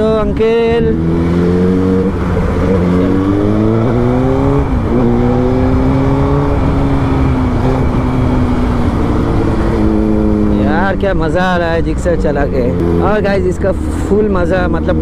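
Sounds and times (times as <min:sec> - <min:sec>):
motorcycle engine revving: 0:00.5 - 0:15.0.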